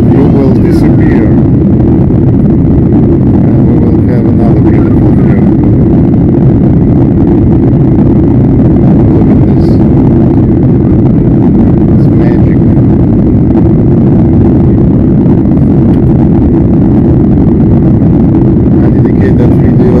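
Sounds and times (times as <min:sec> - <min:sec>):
jet engines roaring: 0:00.0 - 0:20.0
rushing air: 0:00.0 - 0:20.0.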